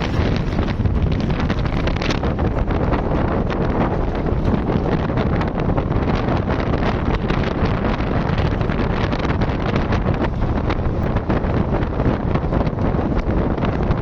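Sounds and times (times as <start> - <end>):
road noise rumble: 0.0 - 14.0
wind buffeting microphone: 0.0 - 14.0.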